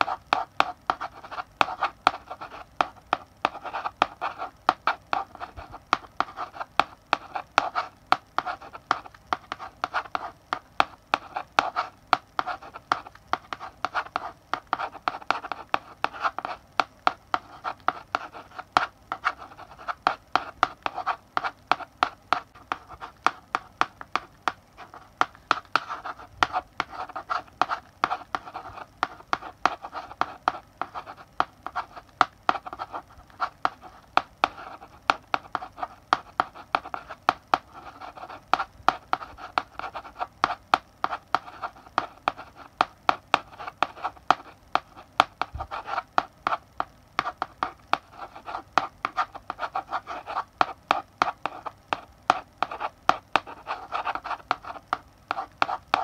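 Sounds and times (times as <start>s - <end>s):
chalk scratching: 0.0s - 46.6s, 47.2s - 56.0s
chalk tapping on blackboard: 0.0s - 56.0s.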